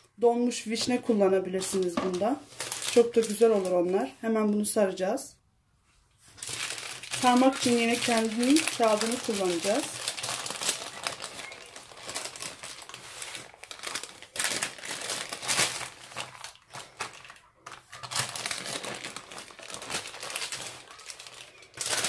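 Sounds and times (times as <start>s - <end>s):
baking paper crinkling: 0.7s - 4.2s, 6.2s - 22.0s.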